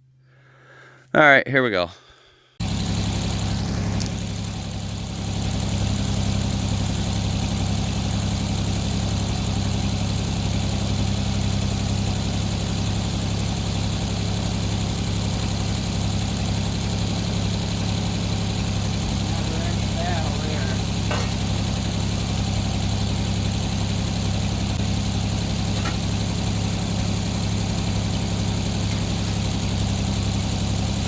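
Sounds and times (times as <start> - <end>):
sawmill engine running: 2.6 - 31.0.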